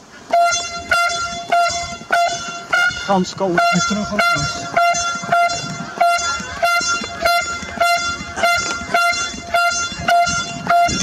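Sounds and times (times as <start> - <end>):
geese honking: 0.2 - 11.0.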